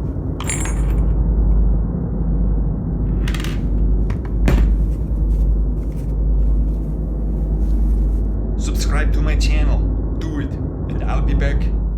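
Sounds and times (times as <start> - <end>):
low rumble: 0.0 - 11.9.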